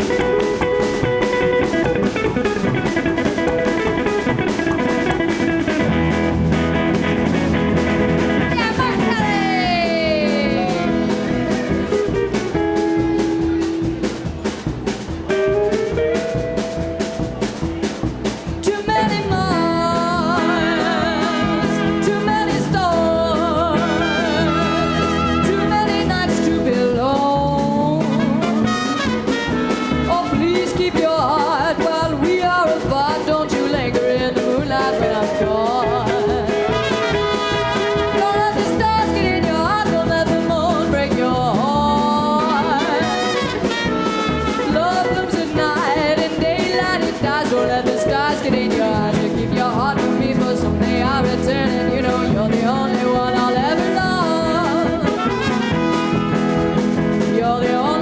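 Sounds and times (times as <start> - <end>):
swing band playing: 0.0 - 58.0.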